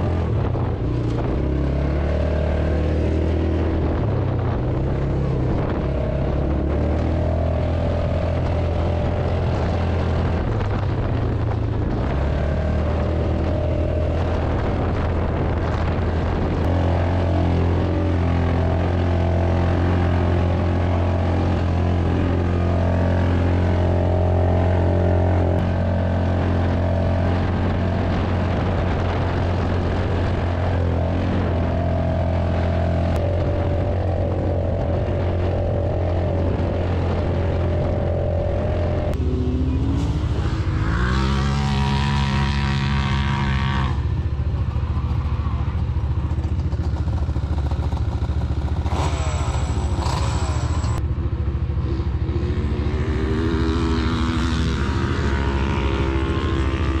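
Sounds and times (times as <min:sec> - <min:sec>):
off-road vehicle engines revving: 0:00.0 - 0:57.0.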